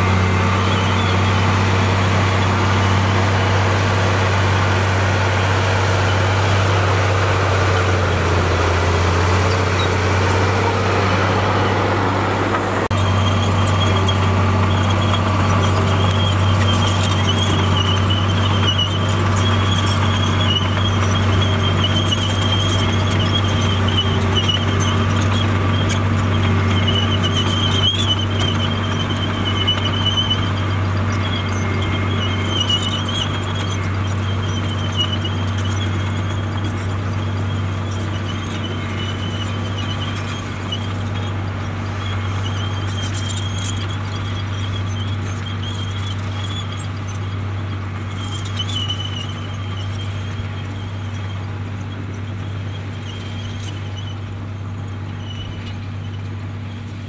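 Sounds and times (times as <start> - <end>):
bulldozer engine drone: 0.0 - 57.0
high-pitched metallic squeal: 0.0 - 57.0.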